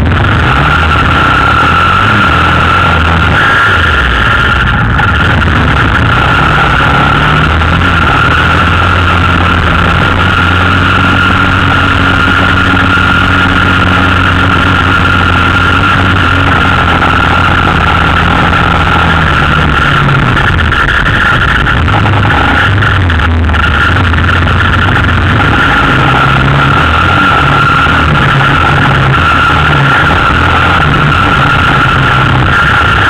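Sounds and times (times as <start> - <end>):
high whine: 0.0 - 33.0
quad engine running: 0.0 - 33.0.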